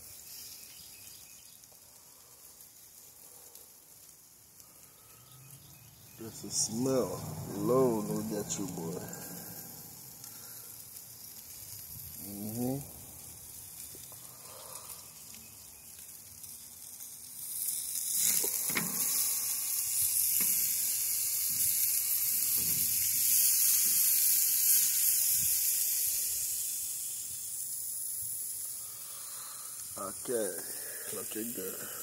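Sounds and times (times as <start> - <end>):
meat sizzling on grill: 0.0 - 32.0
sharp crackles: 0.0 - 32.0.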